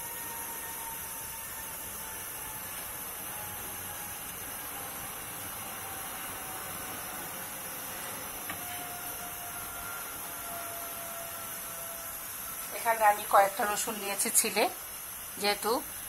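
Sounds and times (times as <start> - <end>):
stove hissing under a pot: 0.0 - 16.0.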